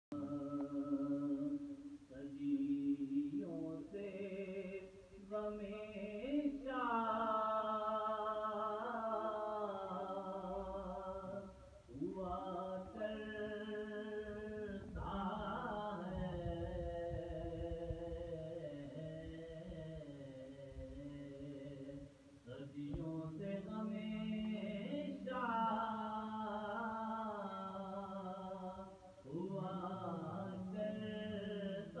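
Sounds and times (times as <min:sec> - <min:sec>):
man chanting unaccompanied: 0:00.1 - 0:32.0.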